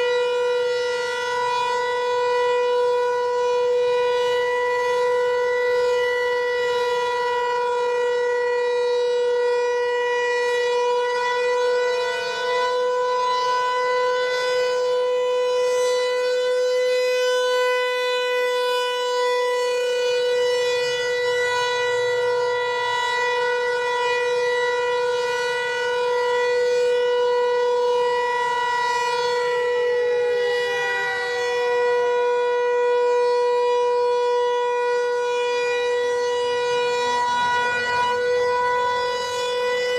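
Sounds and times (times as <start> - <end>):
lower siren tone gliding downward: 0.0 - 39.9
outdoor warning siren steady tone: 0.0 - 39.9.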